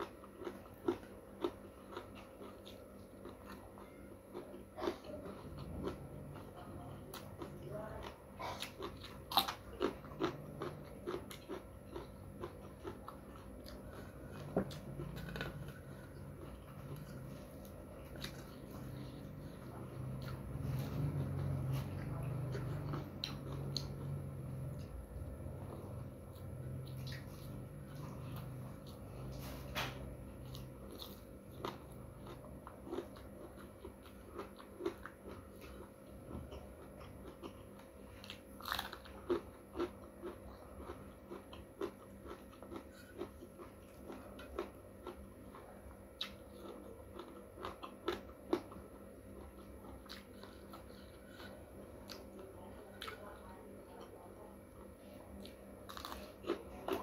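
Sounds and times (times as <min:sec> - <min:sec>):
person chewing and crunching: 0:00.0 - 0:57.0.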